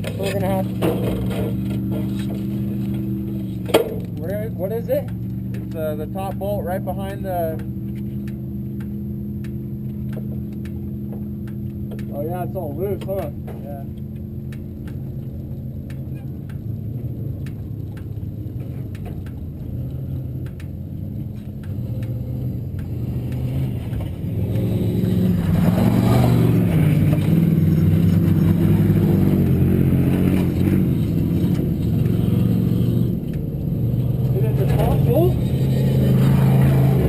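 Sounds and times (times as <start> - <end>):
race car engine running: 0.0 - 37.0.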